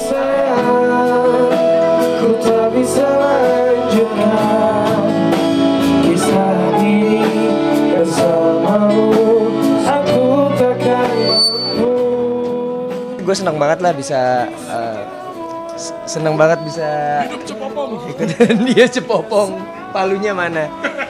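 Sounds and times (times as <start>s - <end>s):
men singing into microphones: 0.0s - 13.3s, 14.4s - 21.0s
guitar accompaniment: 0.0s - 21.0s.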